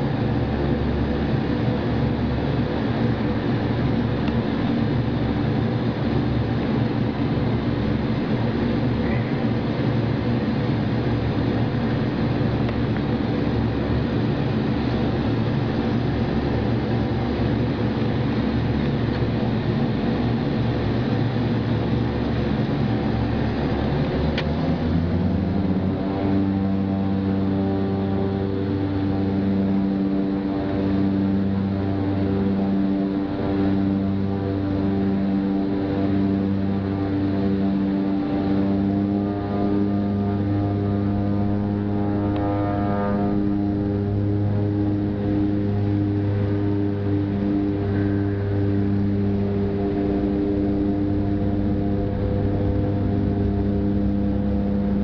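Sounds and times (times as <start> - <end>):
turboprop engines droning: 0.0 - 55.0.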